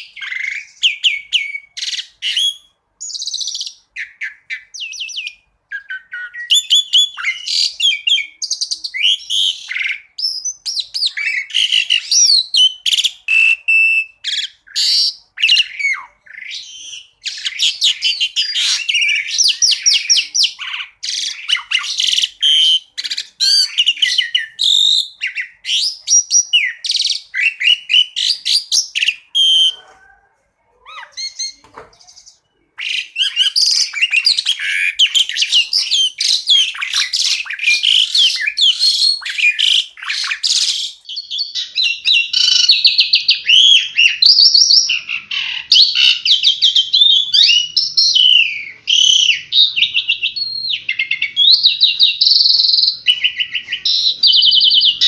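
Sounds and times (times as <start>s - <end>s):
starling singing chirps and trills: 0.0s - 55.0s.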